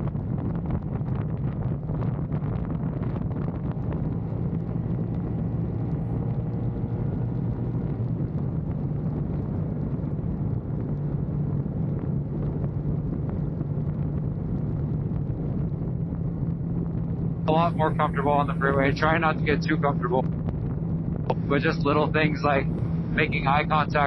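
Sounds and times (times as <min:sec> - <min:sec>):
motorcycle engine drone: 0:00.0 - 0:24.0
wind noise on microphone: 0:00.0 - 0:24.0.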